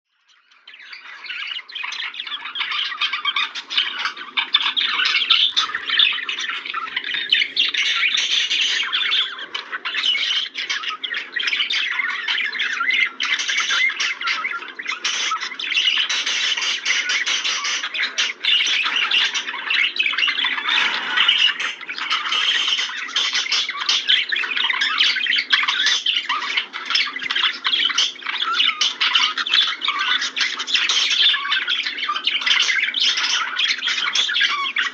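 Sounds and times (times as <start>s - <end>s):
budgerigars chattering and chirping: 0.2s - 34.9s.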